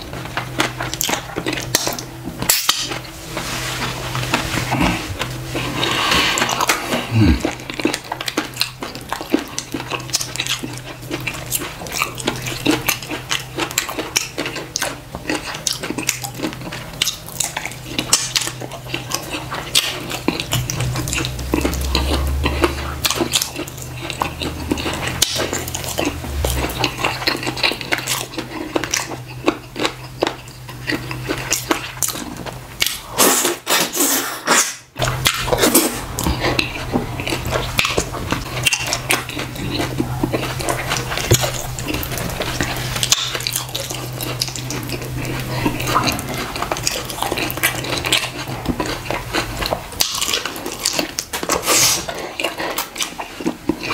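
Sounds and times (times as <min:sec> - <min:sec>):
wet eating clicks and smacks: 0:06.4 - 0:33.9, 0:35.0 - 0:53.9.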